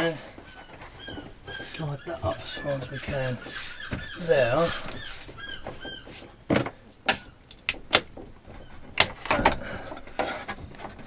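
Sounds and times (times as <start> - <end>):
wall panel scraping: 0.0 - 6.9, 7.9 - 11.0.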